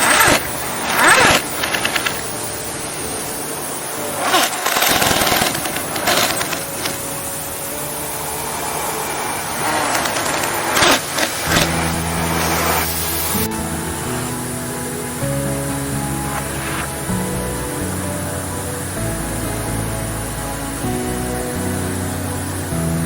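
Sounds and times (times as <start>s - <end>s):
machinery running: 0.0s - 23.0s.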